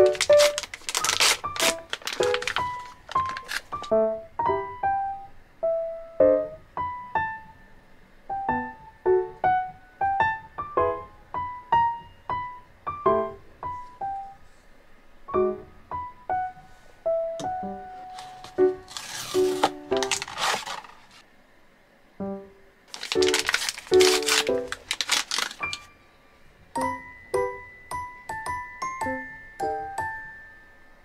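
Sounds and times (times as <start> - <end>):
piano melody: 0.0 - 14.4, 15.3 - 20.8, 22.2 - 31.0.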